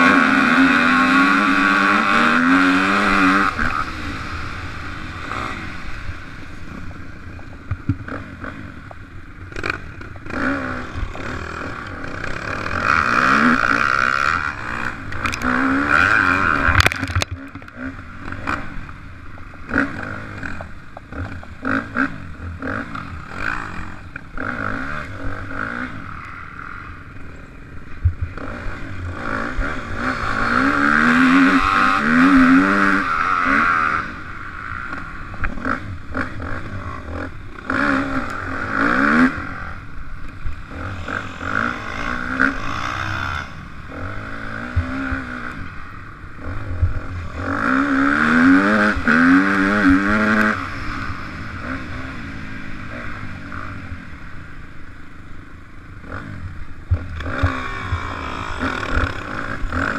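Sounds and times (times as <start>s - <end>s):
dirt bike engine revving: 0.0s - 54.8s, 56.0s - 59.9s.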